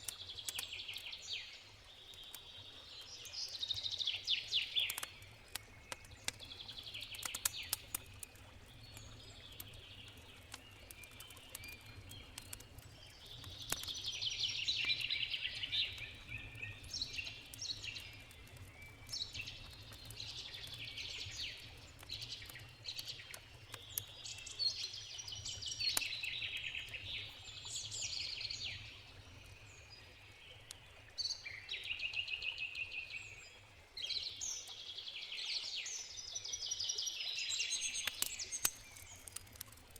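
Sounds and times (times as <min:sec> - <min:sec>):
campfire crackling: 0:00.0 - 0:32.0, 0:37.5 - 0:39.9.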